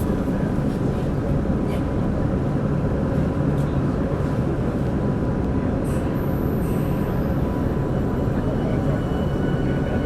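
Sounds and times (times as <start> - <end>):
train wheels and motors rumbling: 0.0 - 10.0.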